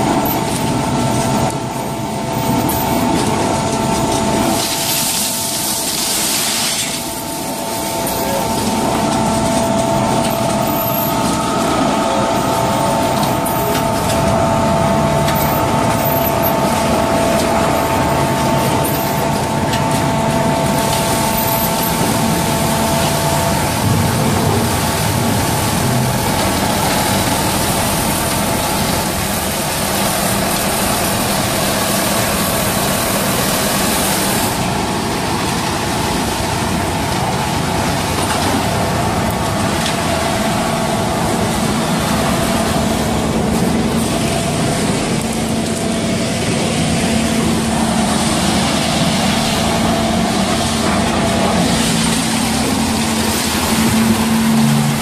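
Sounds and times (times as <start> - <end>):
concrete mixer machine running: 0.0 - 55.0
steady whine: 0.0 - 55.0.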